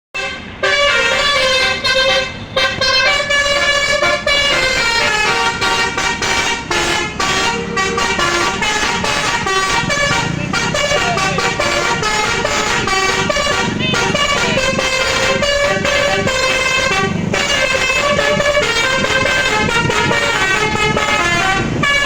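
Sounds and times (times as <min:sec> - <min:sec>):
musical air horn playing a tune: 0:00.2 - 0:22.0.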